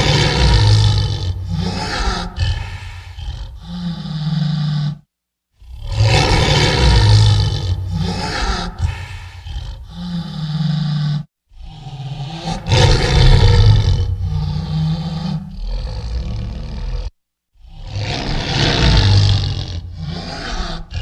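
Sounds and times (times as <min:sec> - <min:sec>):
tiger roaring: 0:00.0 - 0:21.0.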